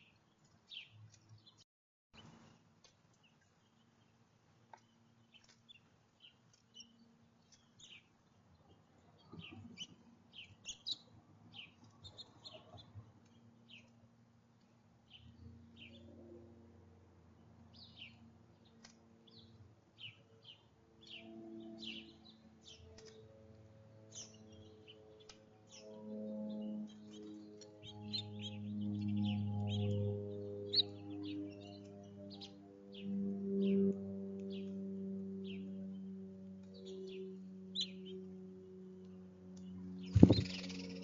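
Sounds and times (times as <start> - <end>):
songbirds chirping: 0.0 - 1.6, 2.2 - 16.2, 17.4 - 41.0.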